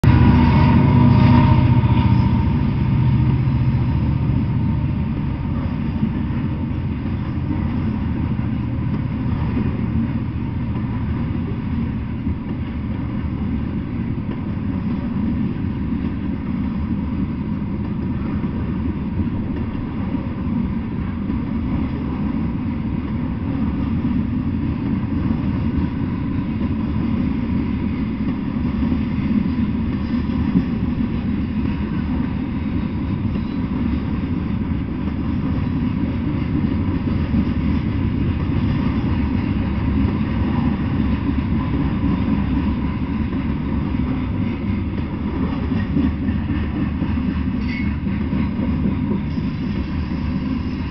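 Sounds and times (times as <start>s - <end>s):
freight train rolling past: 0.0s - 50.9s.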